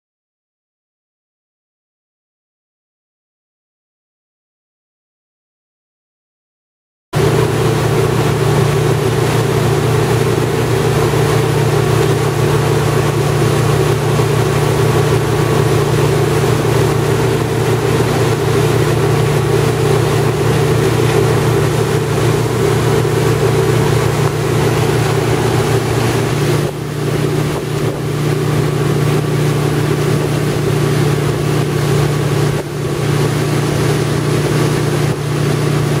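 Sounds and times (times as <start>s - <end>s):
boat engine running: 7.2s - 36.0s
rush of boat wake: 7.2s - 36.0s.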